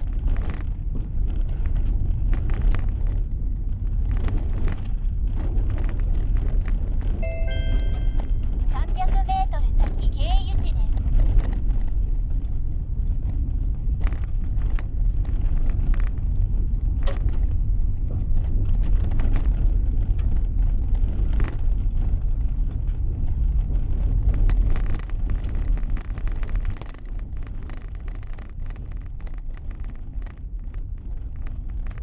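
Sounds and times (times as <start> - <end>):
car engine and tyres rumbling: 0.0 - 7.2, 11.1 - 32.0.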